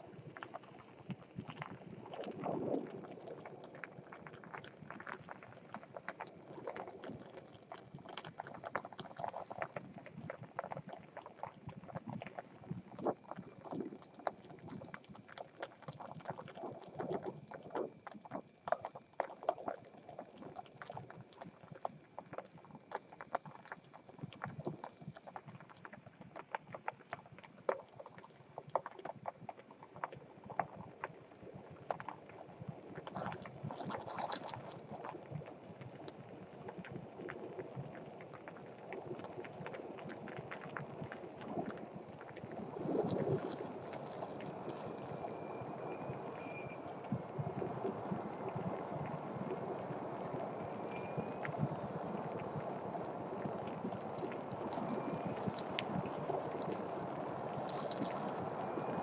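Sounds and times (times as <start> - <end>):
plastic crackling and popping: 0.0 - 59.0
yogurt bubbling: 0.0 - 59.0.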